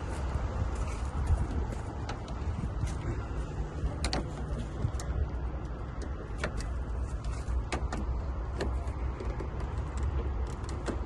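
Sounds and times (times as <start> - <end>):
metallic clicks and scrapes: 0.0 - 11.0.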